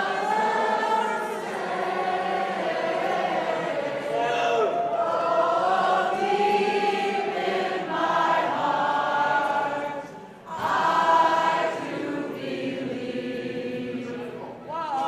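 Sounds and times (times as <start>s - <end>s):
crowd singing together: 0.0s - 14.6s.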